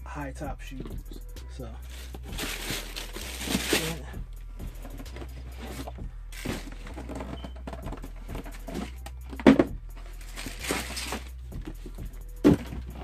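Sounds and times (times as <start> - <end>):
rustling of shoe boxes: 1.8 - 13.0.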